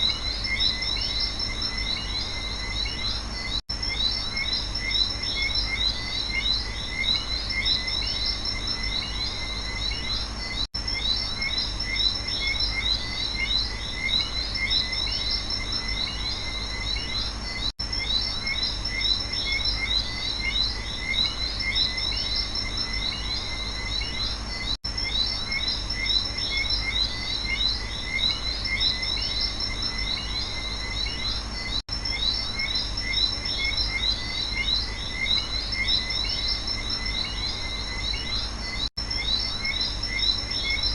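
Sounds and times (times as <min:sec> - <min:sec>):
frogs and insects chirping: 0:00.0 - 0:40.9.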